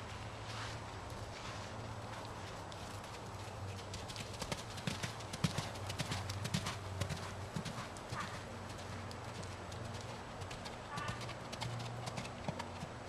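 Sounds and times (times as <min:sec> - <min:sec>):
horse hoofbeats on dirt: 0:01.1 - 0:13.0.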